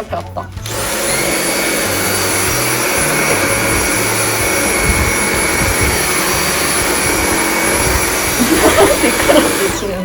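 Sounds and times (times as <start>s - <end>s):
vacuum cleaner running: 0.6s - 10.0s.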